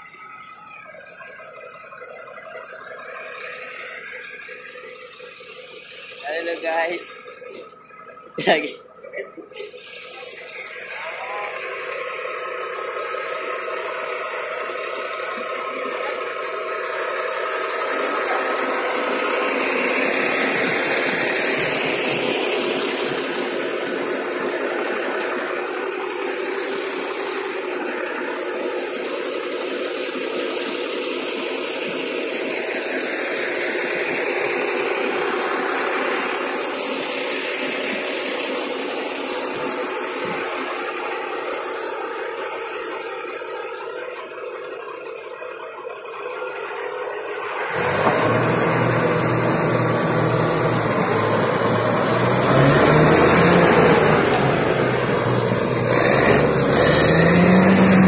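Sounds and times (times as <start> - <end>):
heavy machinery diesel engines: 0.0 - 58.0.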